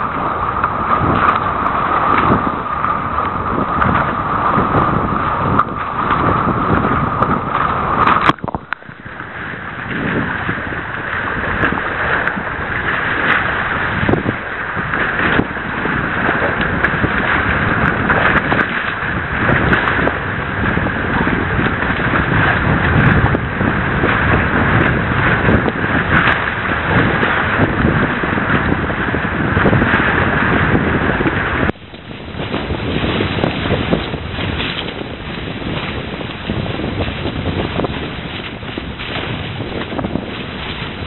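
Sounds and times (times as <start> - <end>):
water splashing past hulls: 0.0 - 41.0
wind on microphone: 0.0 - 41.0.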